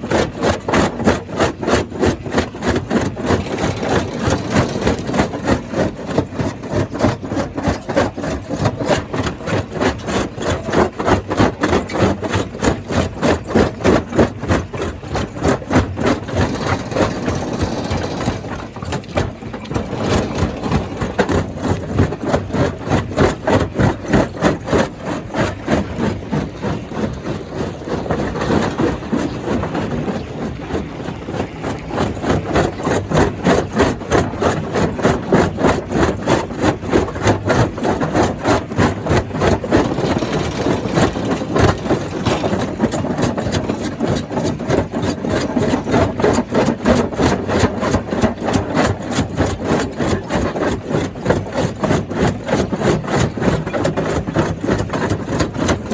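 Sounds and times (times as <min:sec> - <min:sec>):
stone crusher rhythmic pulsing: 0:00.0 - 0:55.9.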